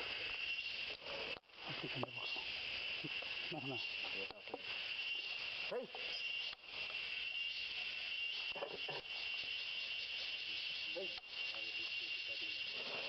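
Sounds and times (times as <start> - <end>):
insects chorus drone: 0.0 - 13.0.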